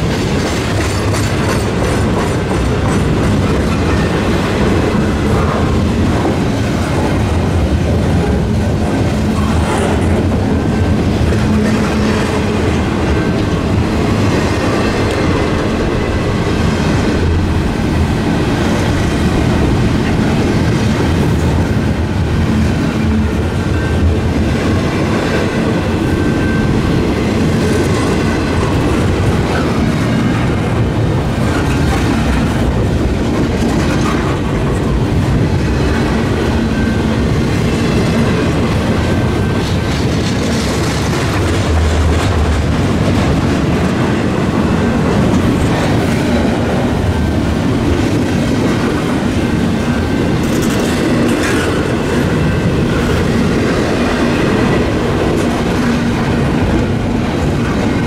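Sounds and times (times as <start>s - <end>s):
rail cars rattling: 0.0s - 58.0s
train wheels on rail: 0.0s - 58.0s.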